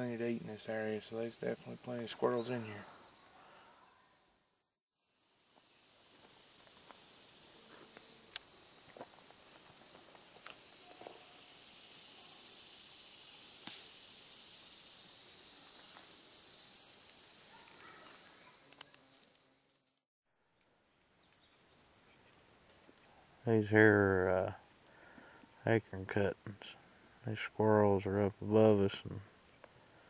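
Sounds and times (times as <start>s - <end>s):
insects trilling: 0.0s - 30.0s
low insect drone: 0.0s - 30.0s.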